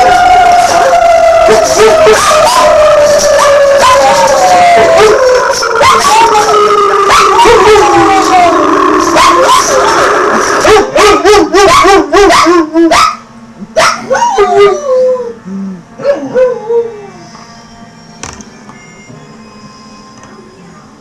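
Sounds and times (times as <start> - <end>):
dogs howling: 0.0 - 13.2, 13.8 - 17.4.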